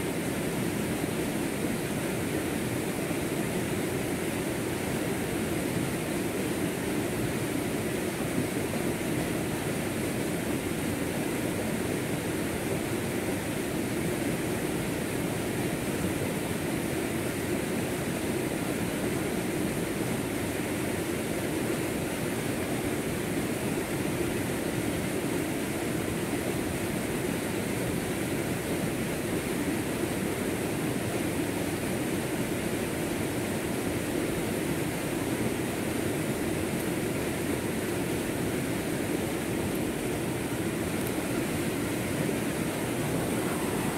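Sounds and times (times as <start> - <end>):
stream rushing over rocks: 0.1 - 43.9.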